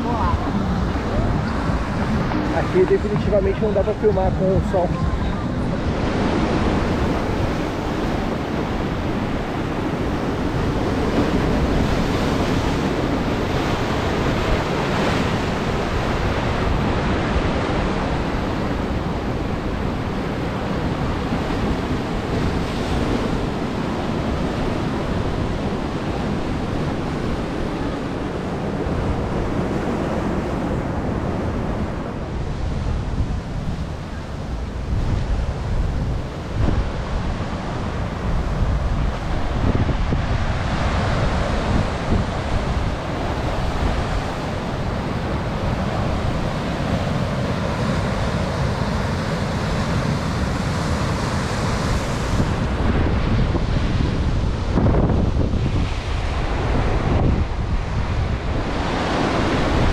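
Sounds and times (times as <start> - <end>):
waves breaking on beach: 0.0 - 59.9
wind buffeting microphone: 0.0 - 59.9.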